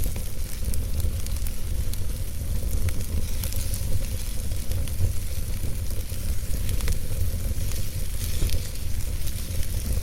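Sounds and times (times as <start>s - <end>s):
logs crackling and popping: 0.0s - 10.0s
wood fire rumbling: 0.0s - 10.0s.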